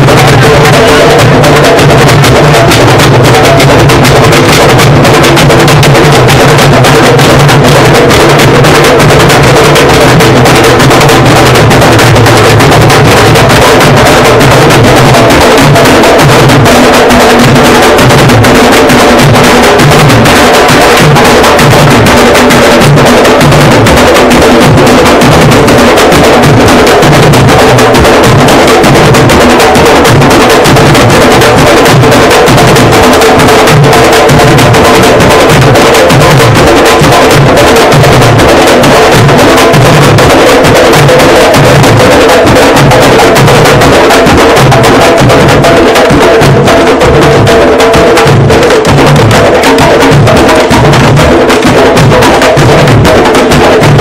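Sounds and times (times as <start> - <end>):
marching drum troupe: 0.0 - 54.0.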